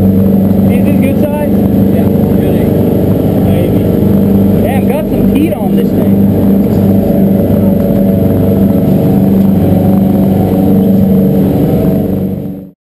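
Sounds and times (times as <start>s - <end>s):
boat engine droning: 0.0s - 12.8s.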